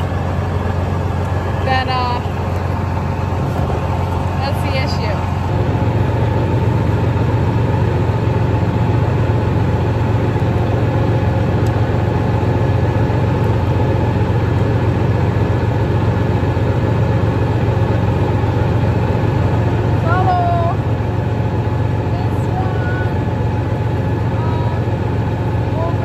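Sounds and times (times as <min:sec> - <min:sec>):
farm machine engine idling: 0:00.0 - 0:26.0.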